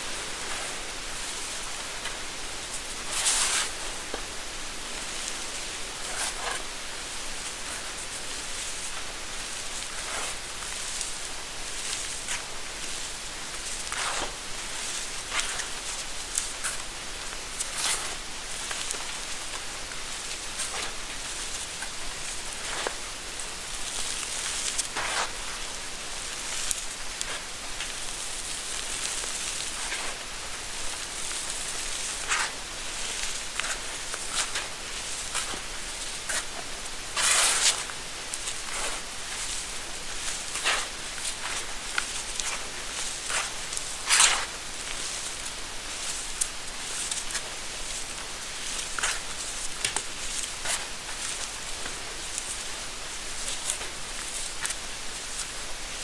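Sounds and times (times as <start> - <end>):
chalk crumbling rustles: 0.1 - 56.0
powder hissing as it falls: 5.0 - 55.6.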